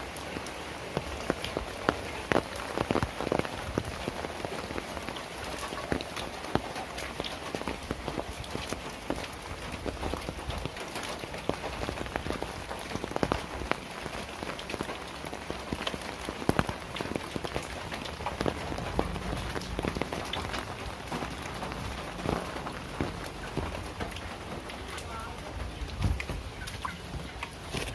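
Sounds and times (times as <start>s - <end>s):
heavy rain falling: 0.0s - 27.9s
raindrops tapping close by: 0.0s - 27.9s.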